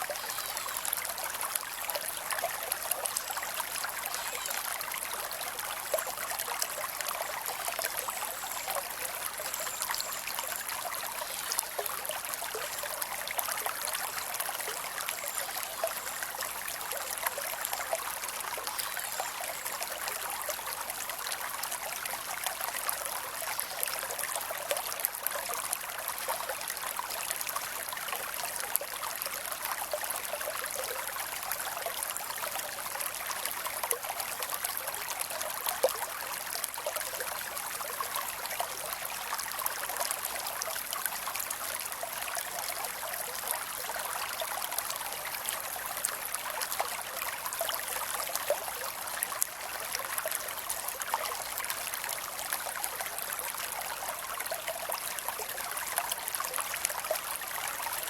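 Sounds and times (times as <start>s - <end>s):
creek water over rocks: 0.0s - 58.0s.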